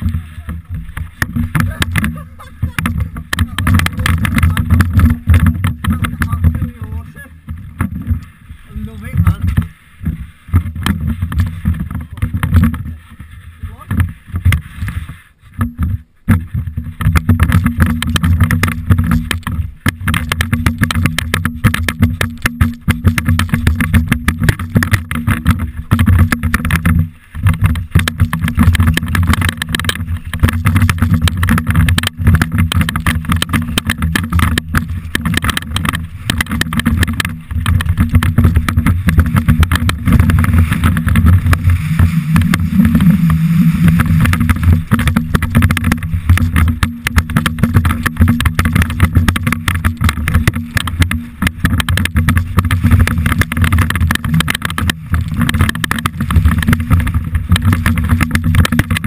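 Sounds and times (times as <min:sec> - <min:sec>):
bike rattling over stones: 0:00.0 - 0:59.0
wind buffeting microphone: 0:00.0 - 0:59.0.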